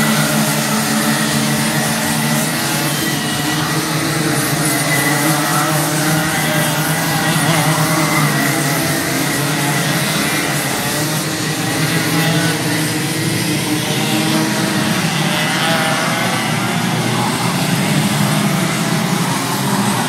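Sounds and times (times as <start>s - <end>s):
racing kart engines: 0.0s - 20.0s.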